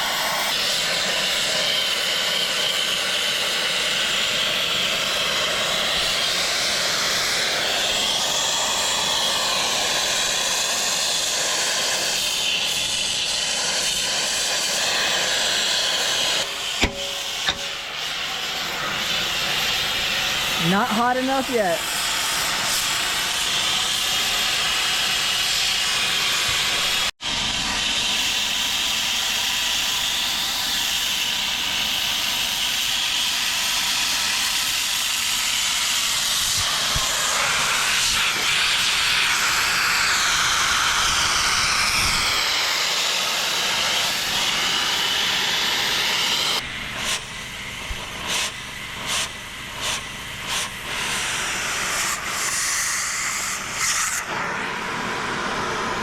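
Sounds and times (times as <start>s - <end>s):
torch flame hissing: 0.0s - 56.0s.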